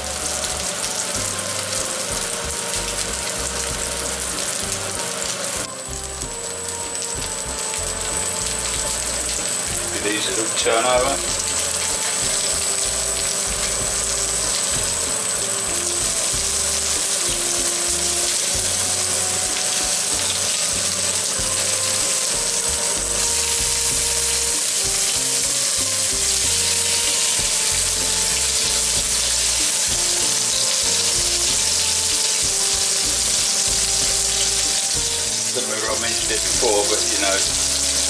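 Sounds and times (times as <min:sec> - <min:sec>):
patties sizzling in oil: 0:00.0 - 0:38.0.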